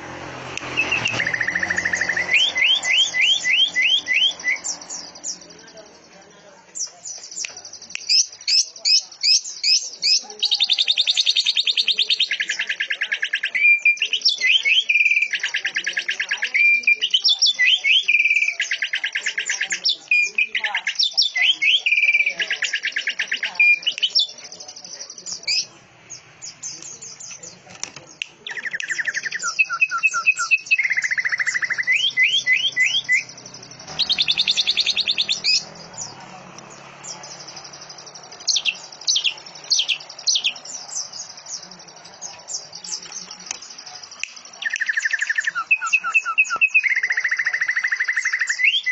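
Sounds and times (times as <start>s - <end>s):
bird singing with fast trills: 0.5s - 48.9s.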